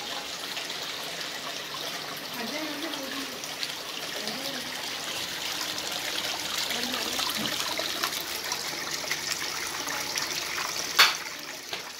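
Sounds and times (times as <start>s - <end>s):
fountain water splashing: 0.0s - 11.9s.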